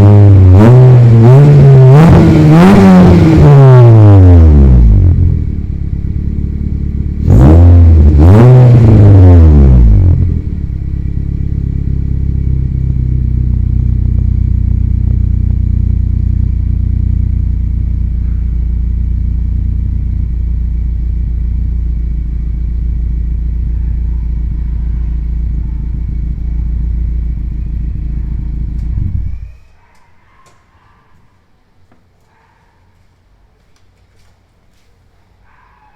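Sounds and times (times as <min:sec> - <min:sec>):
car engine idling and revving: 0:00.0 - 0:29.5.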